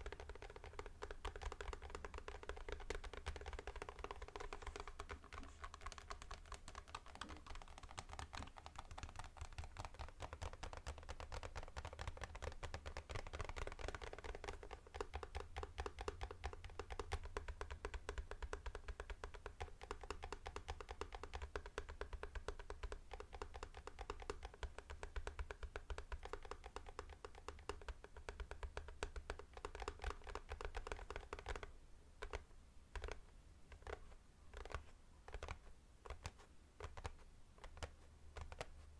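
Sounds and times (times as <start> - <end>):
typing on mechanical keyboard: 0.0 - 38.8.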